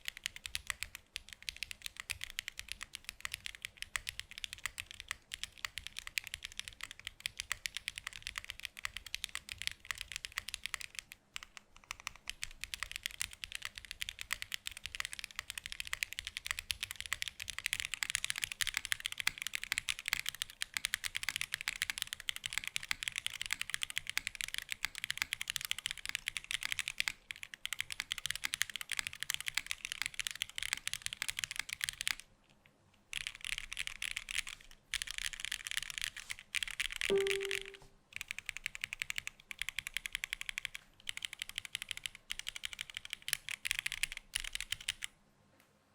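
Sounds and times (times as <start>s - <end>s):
mechanical keyboard typing: 0.0s - 32.3s, 33.1s - 45.2s.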